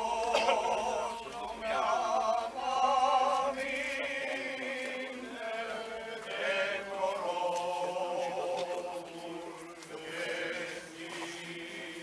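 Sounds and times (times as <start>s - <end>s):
men chanting a hymn: 0.0s - 12.0s.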